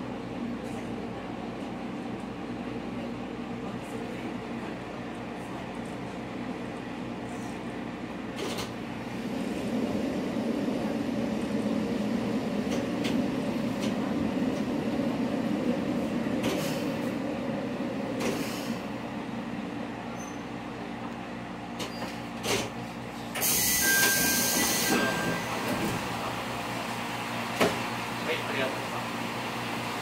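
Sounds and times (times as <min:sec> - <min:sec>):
diesel railcar engine drone: 0:00.0 - 0:30.0.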